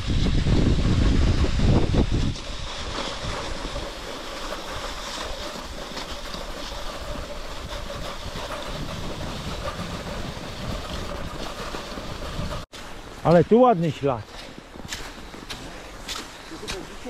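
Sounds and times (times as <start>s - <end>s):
skis sliding on snow: 0.0s - 17.0s.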